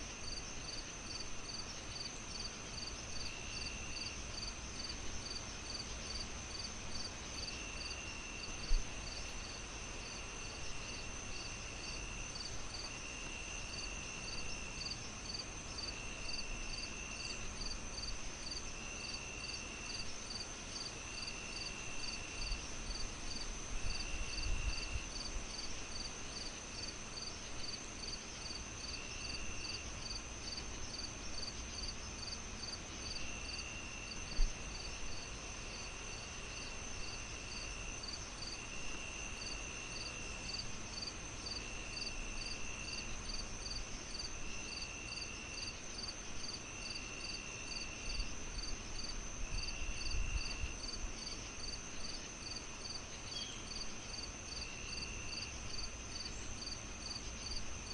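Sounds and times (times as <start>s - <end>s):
crickets chirping: 0.0s - 57.9s
low buzzing insect calls: 0.0s - 57.9s
high insect trill: 0.2s - 57.9s.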